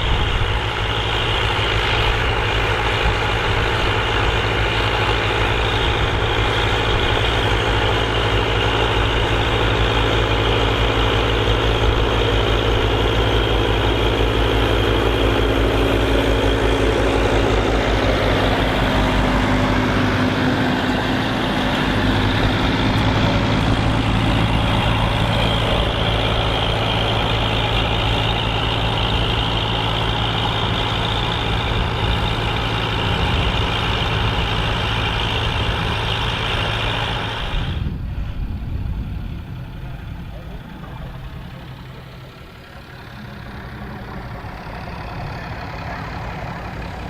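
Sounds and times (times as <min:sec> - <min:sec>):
tractor engines ploughing: 0:00.0 - 0:47.0.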